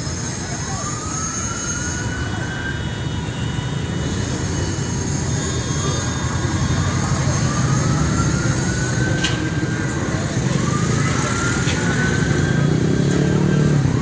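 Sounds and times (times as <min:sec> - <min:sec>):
rumble of motor vehicles: 0:00.0 - 0:14.0.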